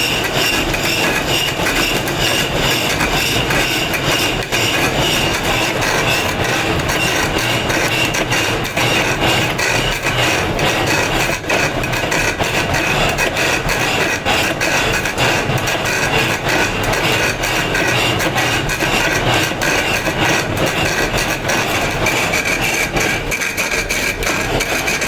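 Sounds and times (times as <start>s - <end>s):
stone being worked rattling: 0.0s - 25.0s.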